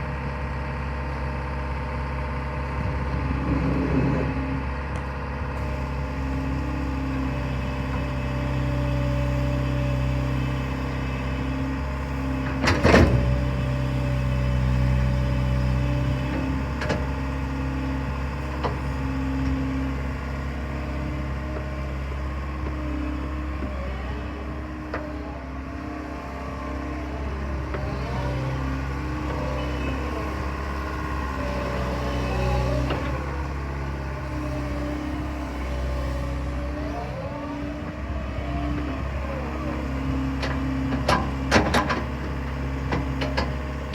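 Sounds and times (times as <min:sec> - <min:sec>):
diesel excavator engine running: 0:00.0 - 0:43.9.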